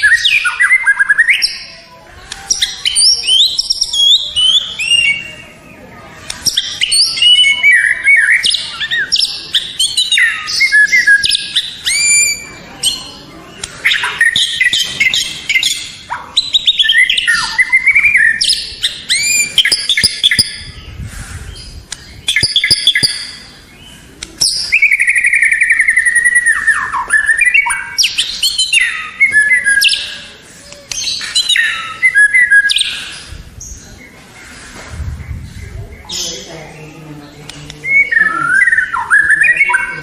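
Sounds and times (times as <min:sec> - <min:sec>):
songbird singing whistles and trills: 0:00.0 - 0:05.6, 0:06.3 - 0:30.3, 0:30.9 - 0:34.1, 0:37.5 - 0:40.0.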